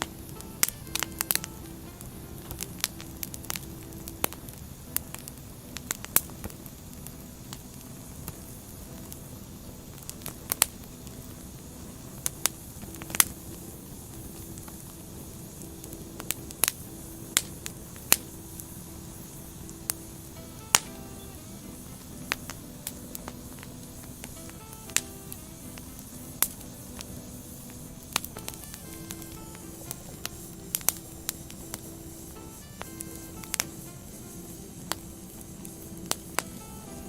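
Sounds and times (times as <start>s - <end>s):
fire low hiss: 0.0s - 37.0s
firewood crackling and popping: 0.0s - 37.0s.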